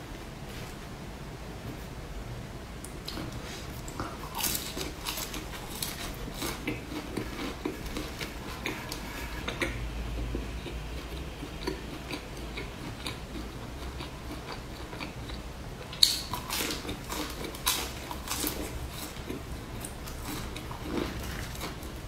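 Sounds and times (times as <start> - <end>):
person chewing: 2.9 - 22.0.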